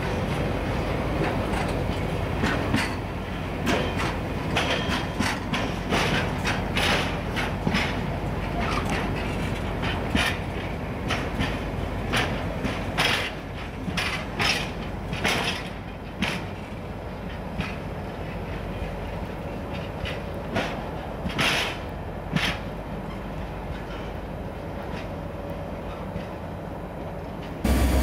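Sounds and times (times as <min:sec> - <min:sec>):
low rumble of rolling wagons: 0:00.0 - 0:28.0.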